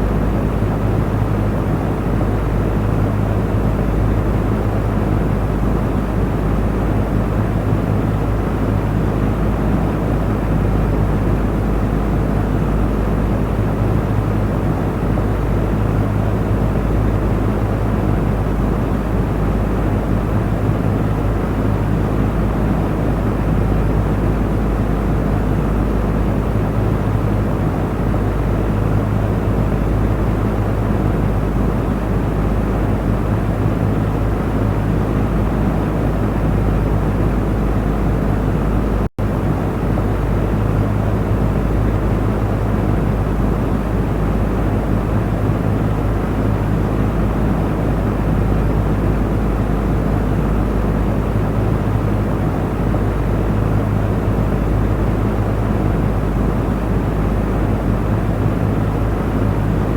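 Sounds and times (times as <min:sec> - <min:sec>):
electric fan running: 0:00.0 - 0:59.9.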